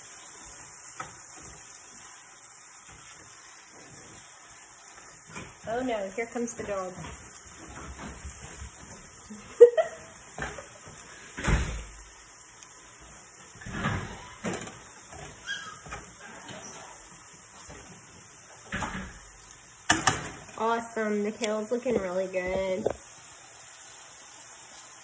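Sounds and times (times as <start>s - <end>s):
faint sizzle of frying: 0.0s - 25.0s.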